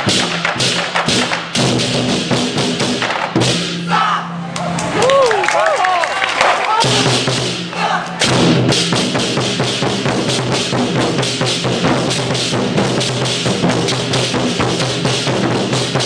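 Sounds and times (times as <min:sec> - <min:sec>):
barrel drums beaten hard: 0:00.0 - 0:04.0, 0:06.8 - 0:16.0.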